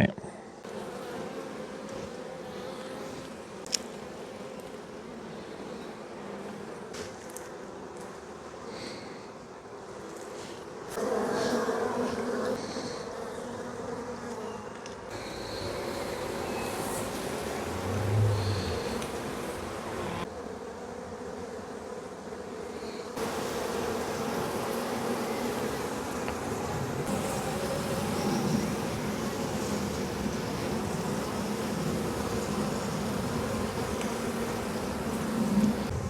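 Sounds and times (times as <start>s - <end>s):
honeybees humming: 0.0s - 36.0s.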